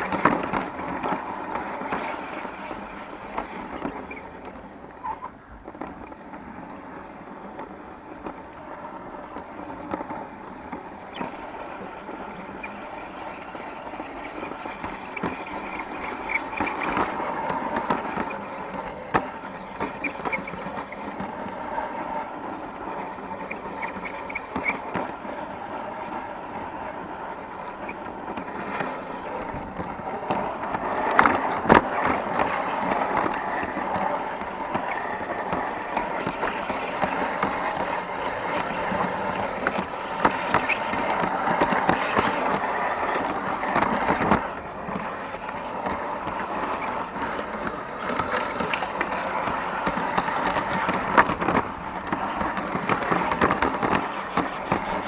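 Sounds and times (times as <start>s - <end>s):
clicks at rail joints: 0.0s - 55.0s
model train wheels clattering: 0.0s - 55.0s.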